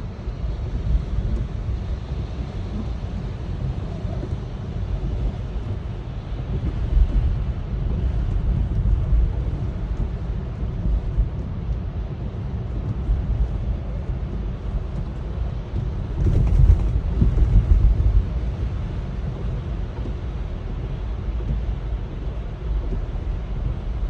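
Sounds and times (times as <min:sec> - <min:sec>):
wind rumble: 0:00.0 - 0:24.0.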